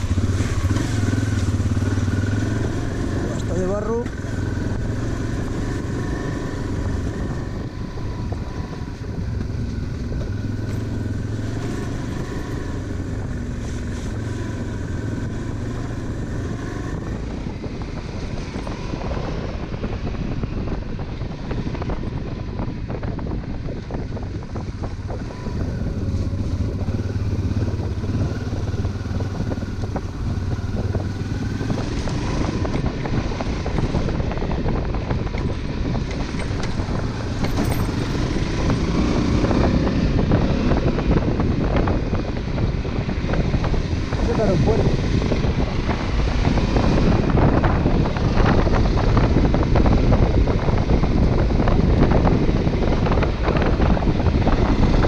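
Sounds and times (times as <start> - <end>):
motorcycle engine running: 0.0 - 55.0
rumble and rattle from rough ground: 0.0 - 55.0.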